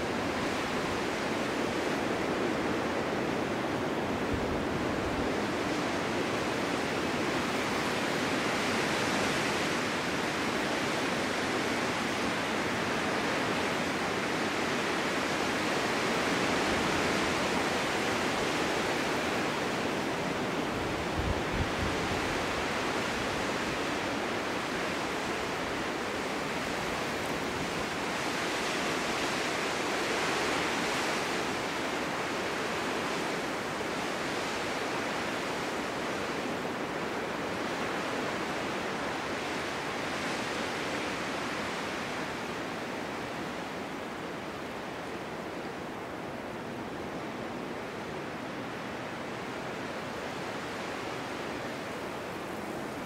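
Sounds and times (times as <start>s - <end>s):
gusting storm wind: 0.0s - 53.0s.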